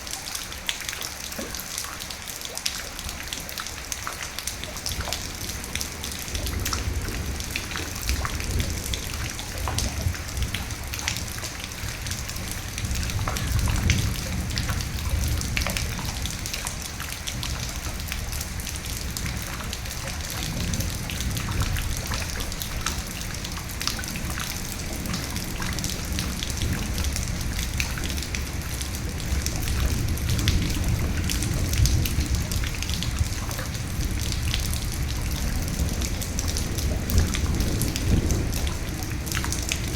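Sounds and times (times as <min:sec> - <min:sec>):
rain drops clicking on a surface: 0:00.0 - 0:39.9
distant thunder rumble: 0:04.8 - 0:39.9.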